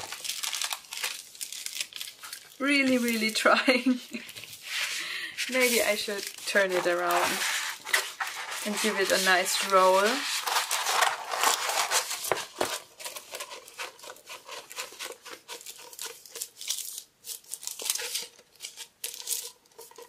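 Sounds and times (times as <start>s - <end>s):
plastic film crinkling: 0.0s - 20.0s.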